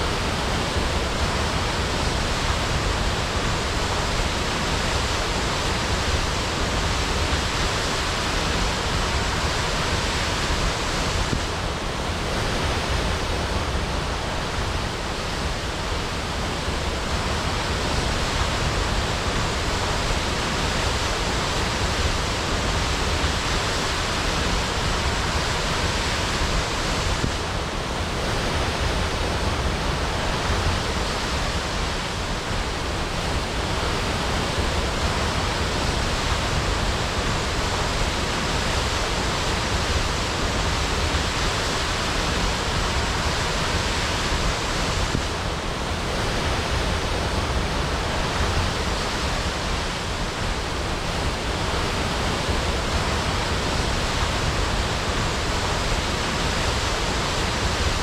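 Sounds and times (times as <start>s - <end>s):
waterfall crashing: 0.0s - 58.0s.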